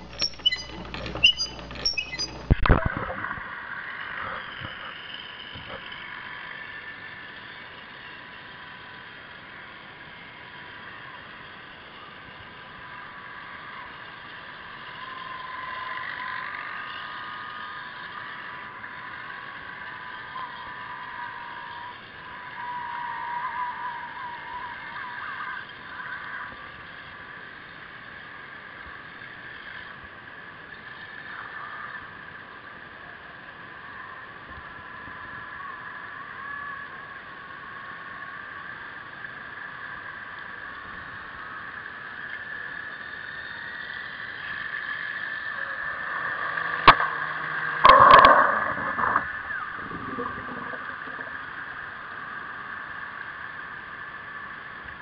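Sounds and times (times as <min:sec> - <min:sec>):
electric motor whine underwater: 0:00.0 - 0:55.0
steady hiss: 0:00.0 - 0:55.0.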